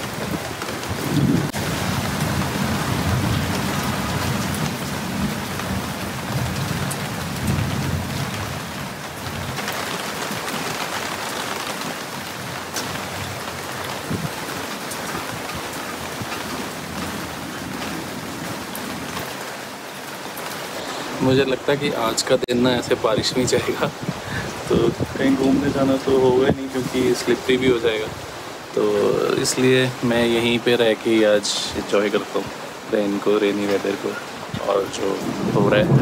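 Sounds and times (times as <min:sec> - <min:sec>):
rain on foliage: 0:00.0 - 0:36.0.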